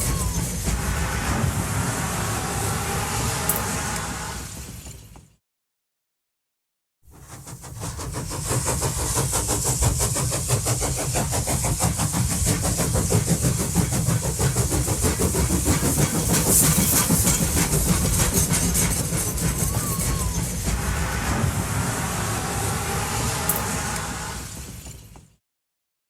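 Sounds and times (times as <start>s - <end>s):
train running with low rumble: 0.0s - 5.4s, 7.1s - 25.4s.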